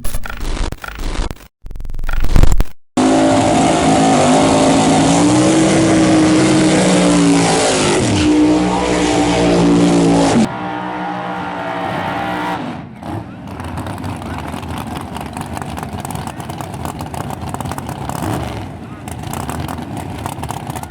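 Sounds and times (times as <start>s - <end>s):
drag racing car engines roaring: 3.0s - 20.9s
low engine note: 3.0s - 20.9s.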